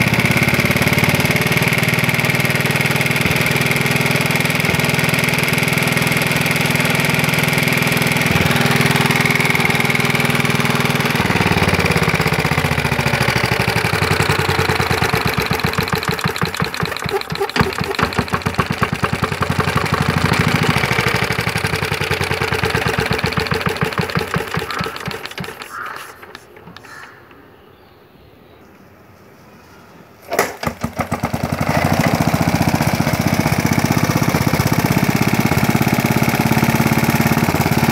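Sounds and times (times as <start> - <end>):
single-cylinder engine running: 0.0 - 27.4, 30.3 - 37.9.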